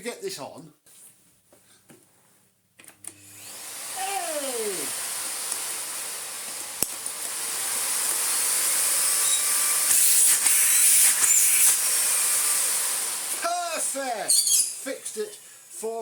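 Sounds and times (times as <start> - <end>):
vacuum cleaner running: 3.0 - 16.0.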